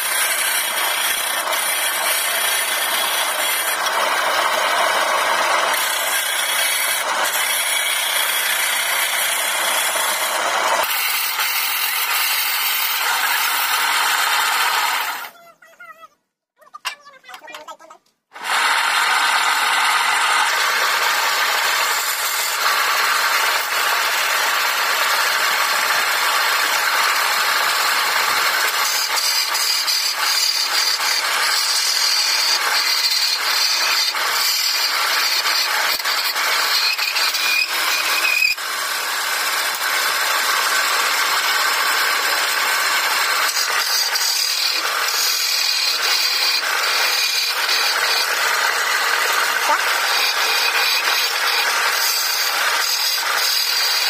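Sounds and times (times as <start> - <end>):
lathe chisel rasping wood: 0.0 - 15.3, 18.4 - 54.0.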